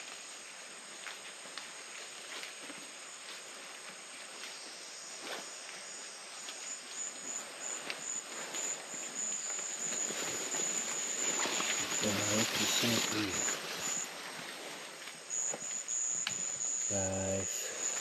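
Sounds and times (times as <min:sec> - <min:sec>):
insects chirping chorus: 0:00.0 - 0:18.0.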